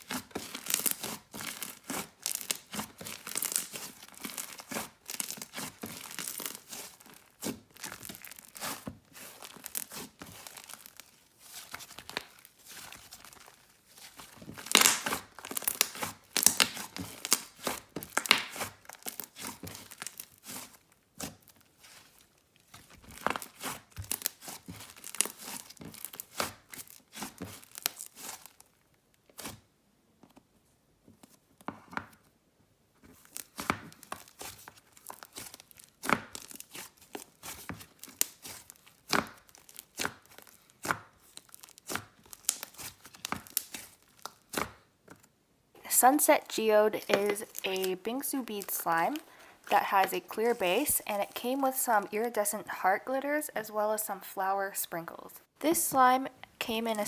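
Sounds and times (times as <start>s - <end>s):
slime crackling and squishing: 0.0s - 29.6s, 33.1s - 44.9s, 45.8s - 57.0s.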